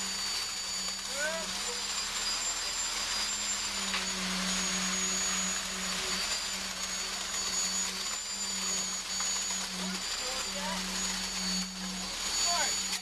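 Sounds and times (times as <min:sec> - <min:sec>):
concrete mixer truck droning: 0:00.0 - 0:13.0.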